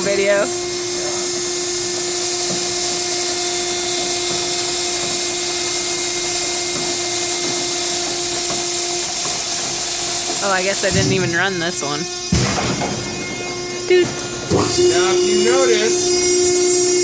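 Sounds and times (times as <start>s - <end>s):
hydraulic pump motor running: 0.0s - 17.0s.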